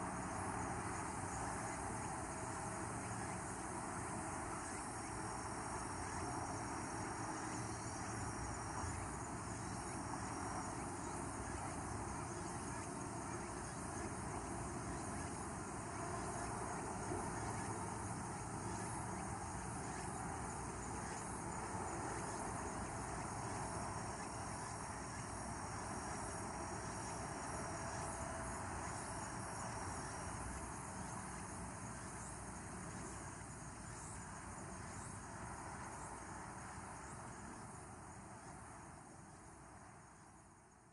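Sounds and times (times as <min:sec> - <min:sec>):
insects trilling: 0:00.0 - 0:40.9
steady low hiss: 0:00.0 - 0:40.9.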